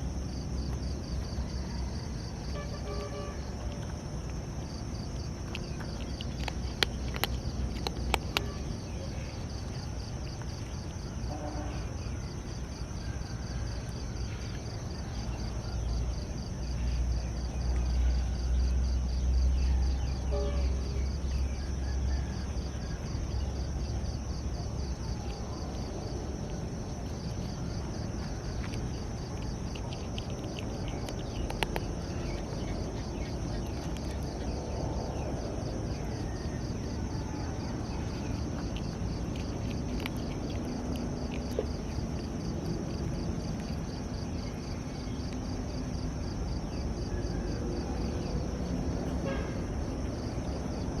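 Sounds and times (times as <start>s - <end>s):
insects chirping: 0.0s - 51.0s.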